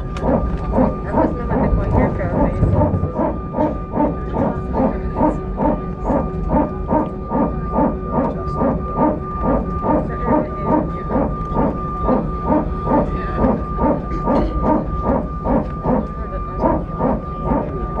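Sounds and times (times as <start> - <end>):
aircraft hum: 0.0 - 18.0.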